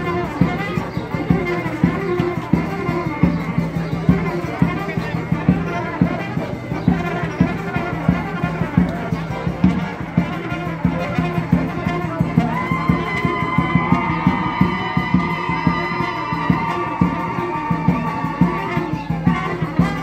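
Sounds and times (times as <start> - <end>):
brass folk dance music: 0.0 - 20.0
steady drum beat: 0.0 - 20.0.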